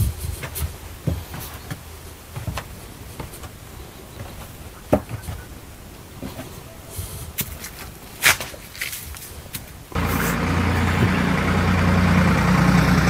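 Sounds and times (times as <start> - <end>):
footsteps on wooden planks: 0.0 - 11.2.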